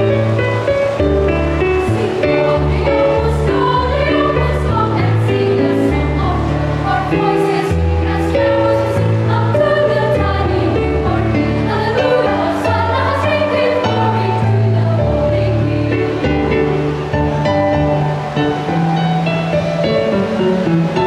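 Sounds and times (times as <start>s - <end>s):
children's choir singing: 0.0s - 21.0s
instrumental accompaniment: 0.0s - 21.0s.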